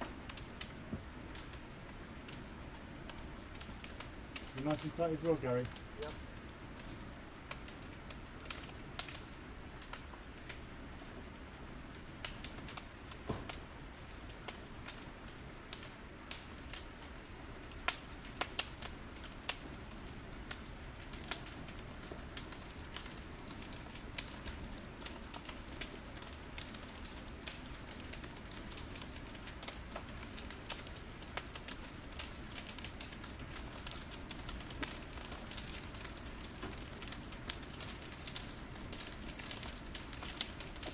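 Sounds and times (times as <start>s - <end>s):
firewood crackling: 0.0s - 40.9s.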